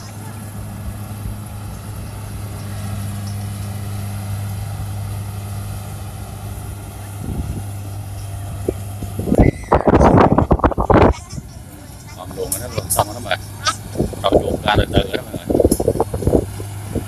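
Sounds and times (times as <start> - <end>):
harvester engine droning: 0.0 - 17.0.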